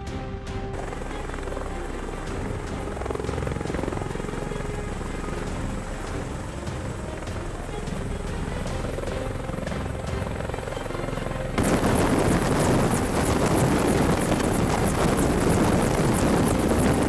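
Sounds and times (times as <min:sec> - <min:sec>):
helicopter rotor and engine roar: 0:00.1 - 0:17.0.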